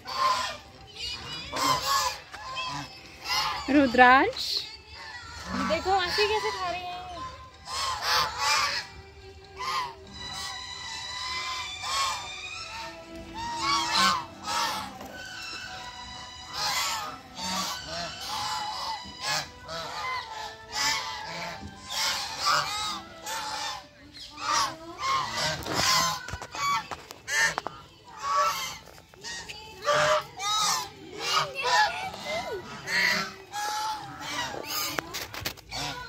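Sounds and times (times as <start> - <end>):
geese honking: 0.0 - 36.0.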